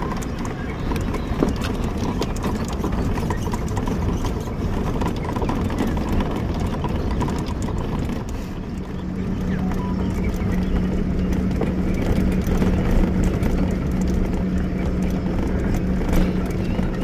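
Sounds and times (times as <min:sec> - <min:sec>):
engine and tyres on gravel: 0:00.0 - 0:17.0
small rattles and knocks: 0:00.0 - 0:17.0.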